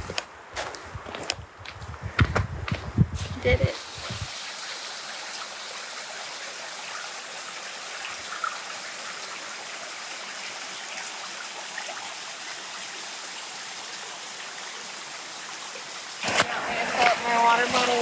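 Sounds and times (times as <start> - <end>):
stream water rushing: 3.5 - 18.0.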